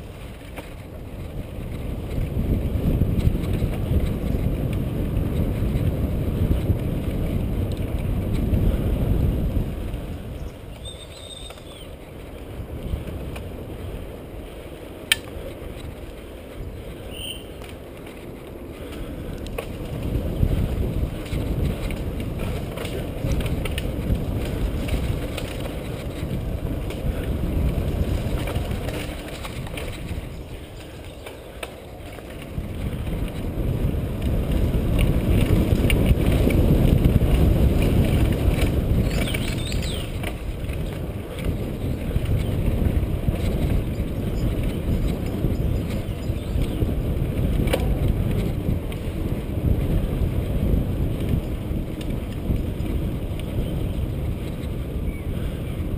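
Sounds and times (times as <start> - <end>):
bike drivetrain and frame rattle: 0.0 - 55.9
bike tyre rumble: 0.0 - 55.9.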